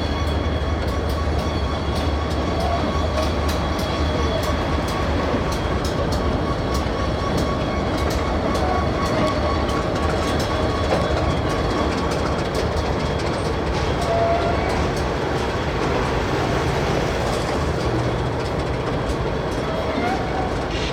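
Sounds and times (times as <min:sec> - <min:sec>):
locomotive engines humming: 0:00.0 - 0:20.9
wheels clicking over rail joints: 0:02.0 - 0:20.9.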